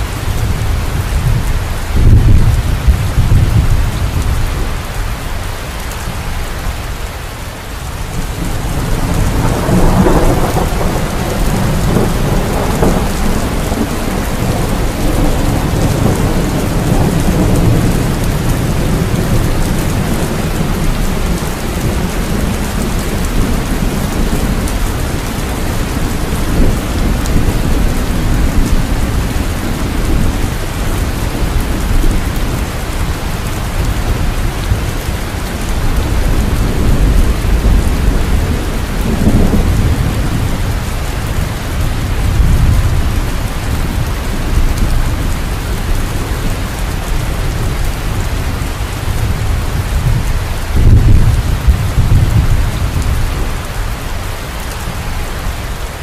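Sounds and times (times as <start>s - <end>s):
heavy rain: 0.0s - 56.0s
thunder rolling: 8.2s - 53.6s.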